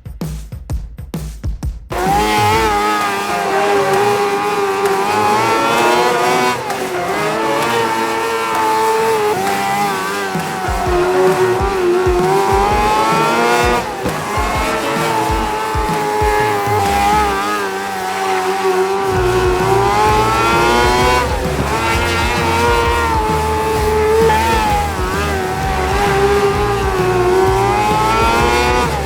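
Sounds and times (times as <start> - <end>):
racing car engines revving: 1.9 - 29.0.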